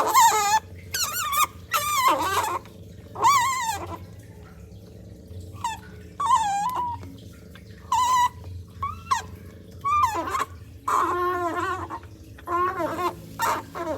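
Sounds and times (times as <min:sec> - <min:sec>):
baby otter squealing: 0:00.0 - 0:04.0, 0:05.6 - 0:07.1, 0:07.9 - 0:13.9.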